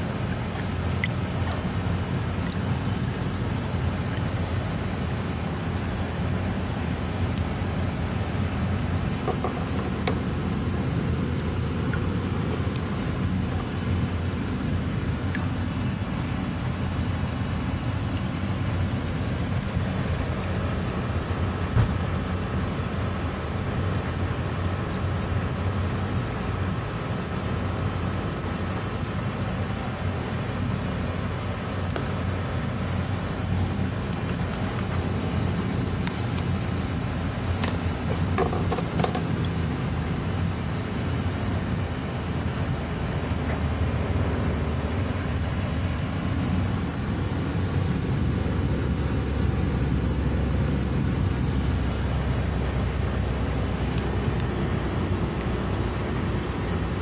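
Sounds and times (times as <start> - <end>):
low rumbling background noise: 0.0 - 57.0.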